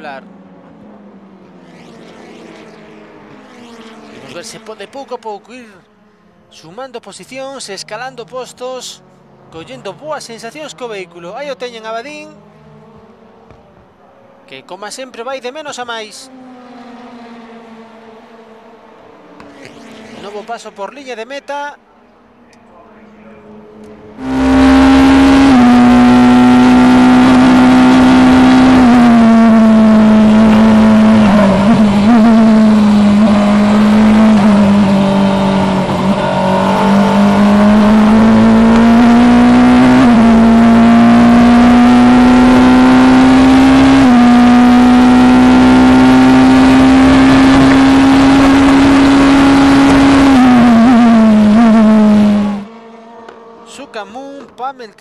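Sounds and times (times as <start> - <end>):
race car engine at high revs: 0.0 - 5.6, 9.3 - 14.4, 16.0 - 20.8, 22.2 - 54.6.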